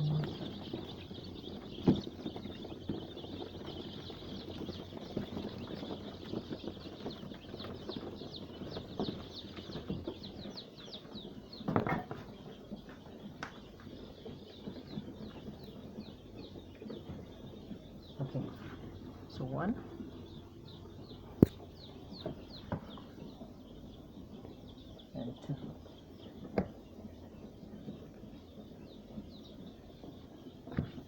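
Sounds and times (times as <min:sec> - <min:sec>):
chicks peeping: 0:00.0 - 0:31.0
chicks rustling and fluttering: 0:00.0 - 0:31.0.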